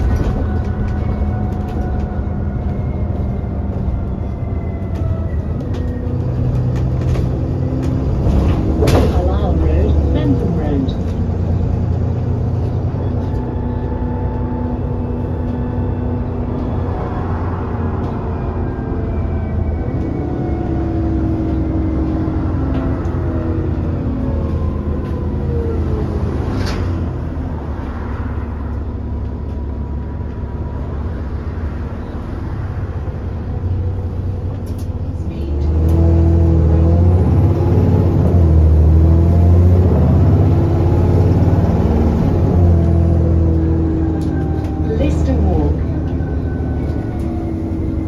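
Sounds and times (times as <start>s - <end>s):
bus engine rumbling: 0.0s - 48.0s.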